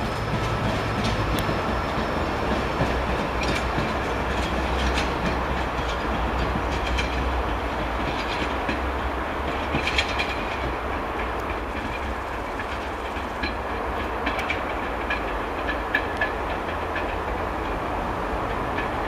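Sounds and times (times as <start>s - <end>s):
train rumbling: 0.0s - 19.0s
wheels clacking over rail joints: 0.0s - 19.0s.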